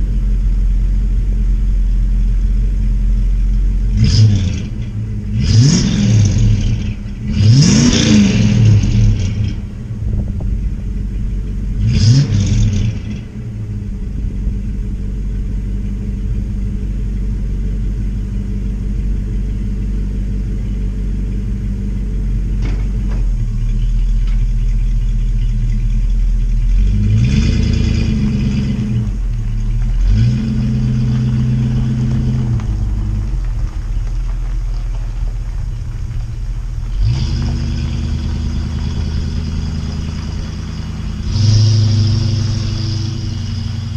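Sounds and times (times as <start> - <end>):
motorhome engine revving: 0.0 - 43.9.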